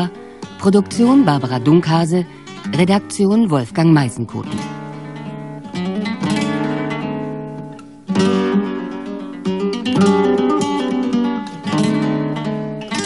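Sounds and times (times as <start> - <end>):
flamenco acoustic guitar: 0.0 - 13.0.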